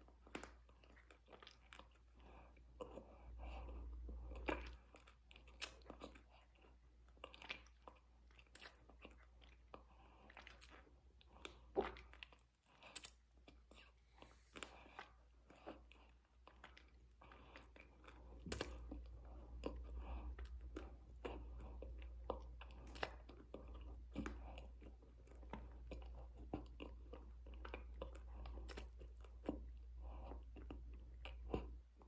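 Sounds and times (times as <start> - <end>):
crunchy food chewing: 0.0 - 32.0.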